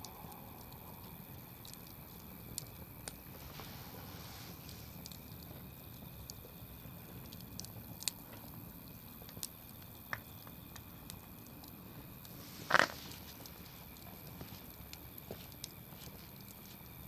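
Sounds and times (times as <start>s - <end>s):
burning wood crackling and popping: 0.0s - 17.0s
campfire flames rushing: 0.0s - 17.0s.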